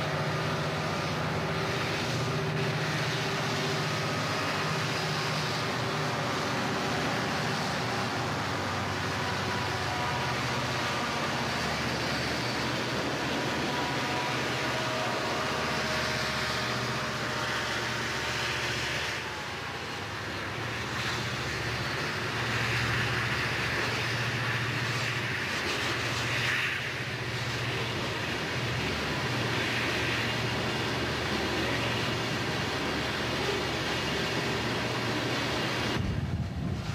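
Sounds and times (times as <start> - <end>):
diesel locomotive engines rumbling: 0.0 - 36.9
train wheels on rails: 0.0 - 36.9.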